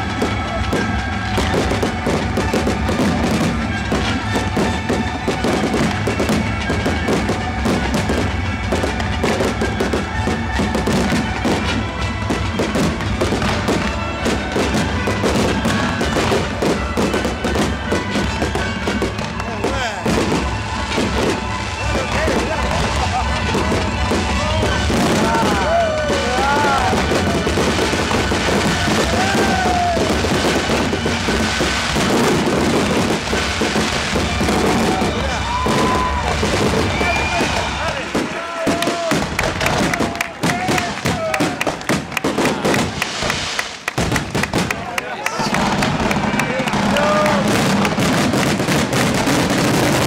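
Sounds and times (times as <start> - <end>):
fireworks bangs: 0.0 - 50.0
music playing: 0.0 - 50.0.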